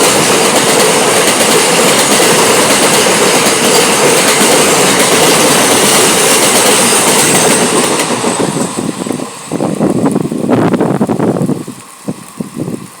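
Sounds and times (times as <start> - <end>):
wheels clacking over rail joints: 0.0 - 11.6
train rushing past: 0.0 - 11.7.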